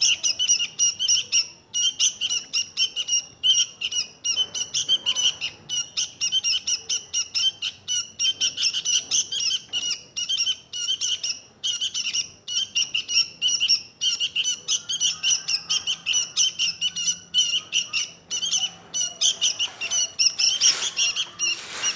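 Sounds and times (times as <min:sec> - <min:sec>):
bird singing rapid chirps: 0:00.0 - 0:21.9.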